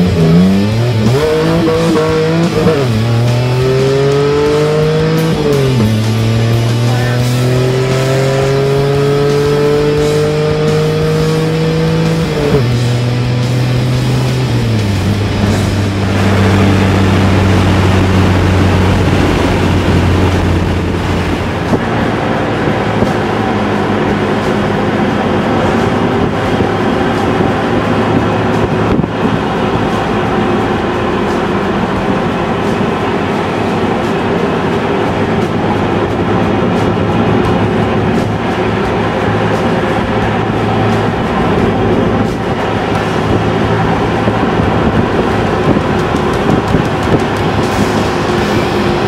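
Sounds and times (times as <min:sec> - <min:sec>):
car engine droning: 0:00.0 - 0:49.0
tyre and wind noise: 0:00.0 - 0:49.0.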